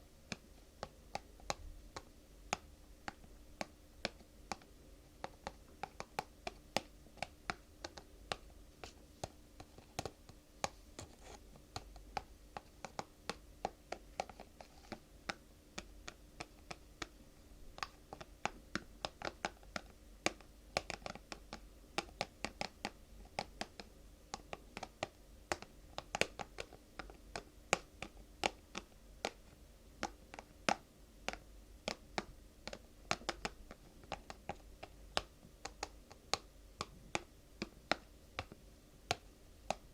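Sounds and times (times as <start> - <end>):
faint steady hum: 0.0 - 39.9
fingers tapping and scratching: 0.3 - 17.2, 17.8 - 39.9.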